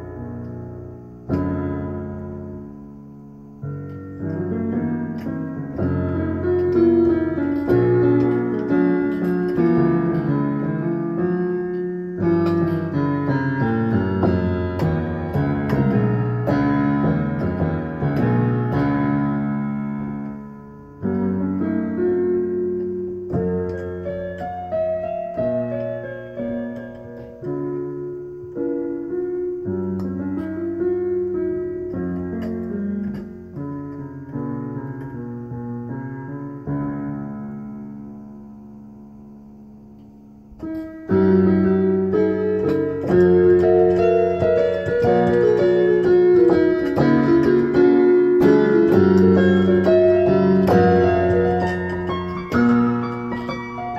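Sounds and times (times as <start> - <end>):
piano music: 0.0 - 53.9.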